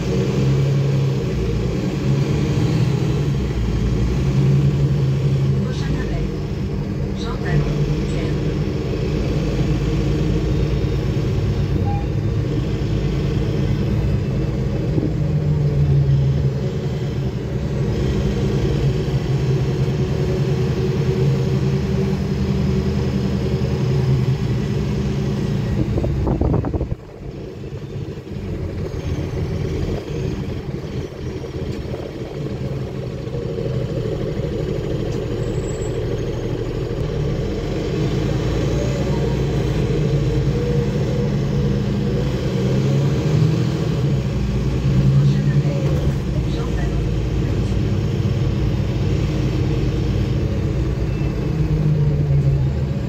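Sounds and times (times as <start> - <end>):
bus engine rumble: 0.0 - 53.0
road noise: 0.0 - 53.0.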